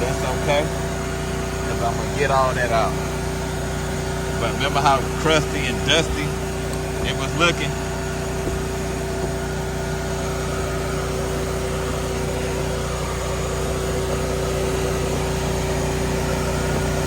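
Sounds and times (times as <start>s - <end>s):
motor humming with whine: 0.0s - 17.0s.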